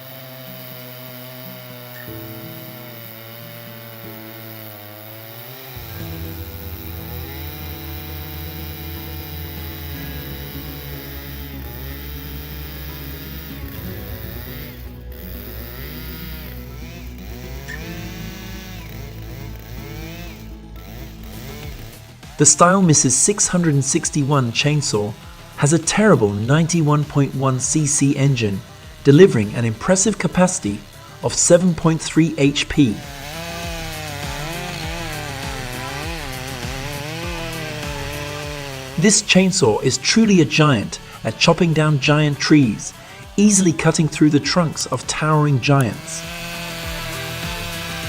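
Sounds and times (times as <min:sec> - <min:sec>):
chainsaw cutting: 0:00.0 - 0:48.0.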